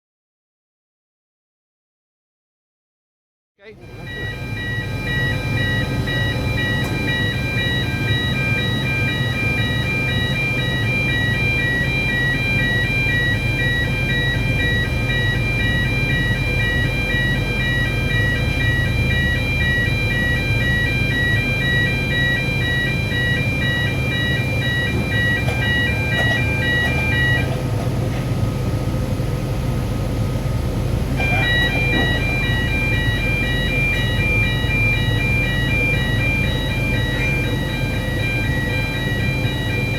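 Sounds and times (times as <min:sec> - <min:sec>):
low machine hum: 0:03.6 - 0:39.9
electronic warning alarm beeping: 0:03.7 - 0:28.5, 0:31.1 - 0:39.9.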